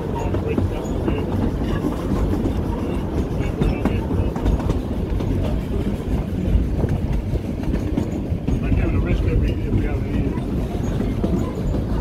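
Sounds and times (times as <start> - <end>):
train wheels rumbling and rattling: 0.0 - 12.0.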